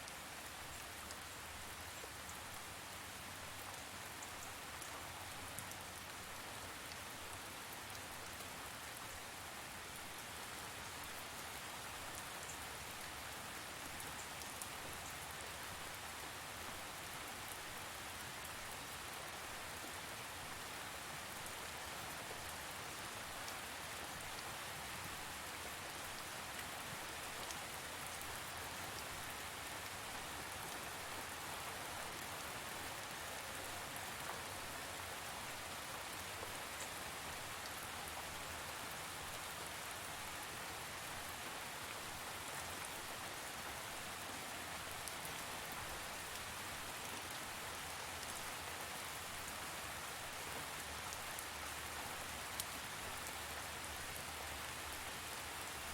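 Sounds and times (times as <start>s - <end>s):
steady rain hissing: 0.0s - 55.9s.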